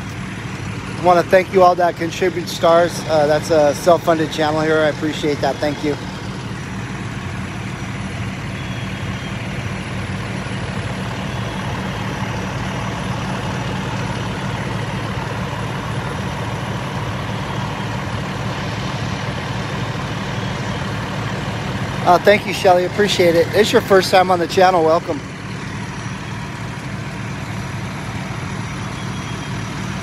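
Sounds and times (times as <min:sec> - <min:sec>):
diesel engine drone: 0:00.0 - 0:30.0.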